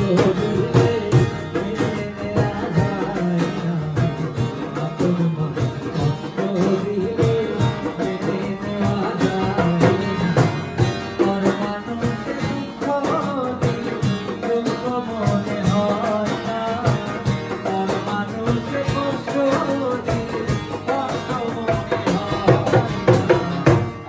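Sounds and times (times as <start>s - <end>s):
hand drum beat: 0.0s - 24.0s
harmonium: 0.0s - 24.0s
man singing: 0.0s - 24.0s
strummed acoustic guitar: 0.0s - 24.0s.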